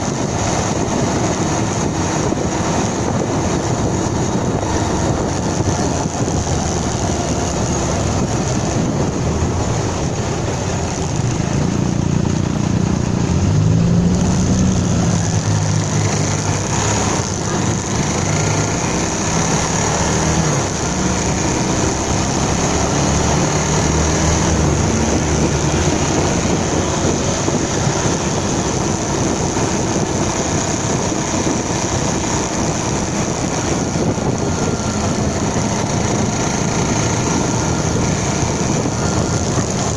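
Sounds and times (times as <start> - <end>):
motorcycle engine rising and falling: 0.0 - 39.9
wind and road noise: 0.0 - 39.9.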